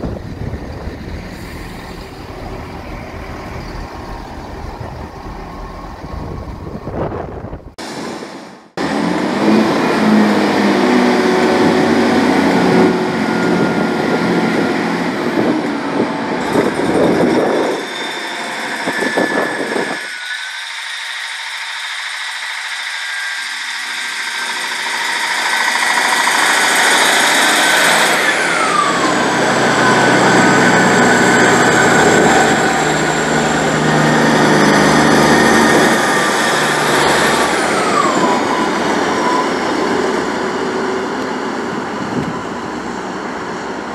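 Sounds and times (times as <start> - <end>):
diesel train engine drone: 0.0 - 43.9.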